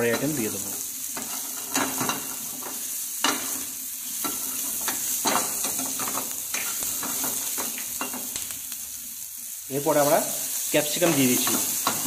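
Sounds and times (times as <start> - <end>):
onion sizzling gently in oil: 0.0 - 12.0.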